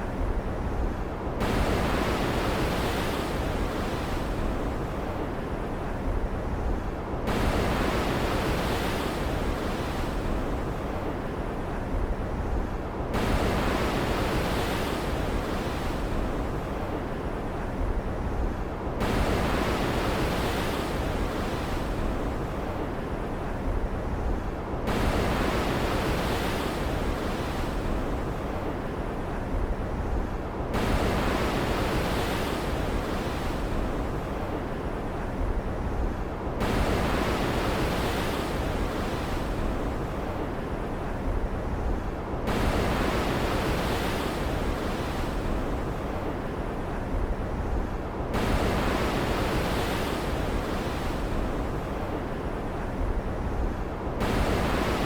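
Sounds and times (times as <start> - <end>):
wind-blown water: 0.0 - 55.0.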